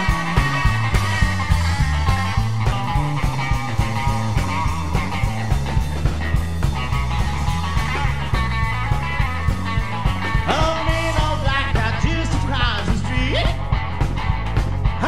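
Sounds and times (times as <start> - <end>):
rockabilly band playing: 0.0 - 15.0
sliding bending guitar notes: 0.0 - 15.0.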